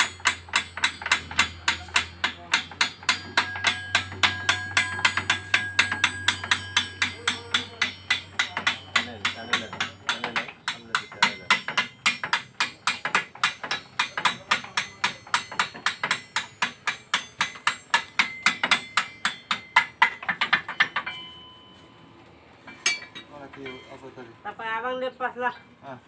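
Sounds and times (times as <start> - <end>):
hammer striking steel: 0.0 - 21.8, 22.6 - 24.4.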